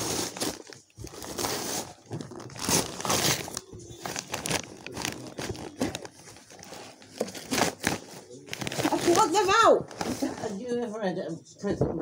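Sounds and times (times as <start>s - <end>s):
wrapping paper tearing: 0.0s - 10.5s.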